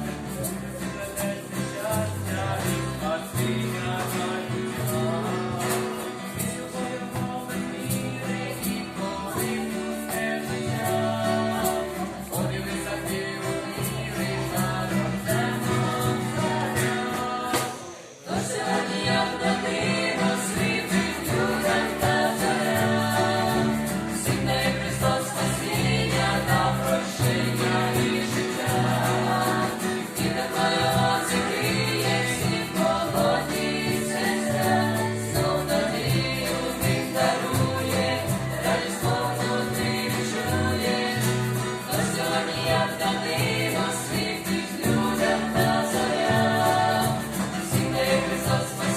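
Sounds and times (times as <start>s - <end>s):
band song with singing: 0.0s - 48.9s.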